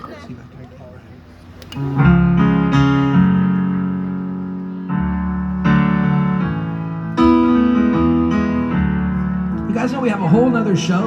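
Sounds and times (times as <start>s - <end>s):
sustained piano chords: 1.8s - 11.0s.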